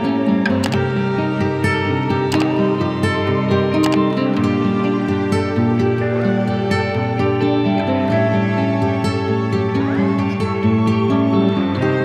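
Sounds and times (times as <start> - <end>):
soft instrumental guitar music: 0.0 - 12.0.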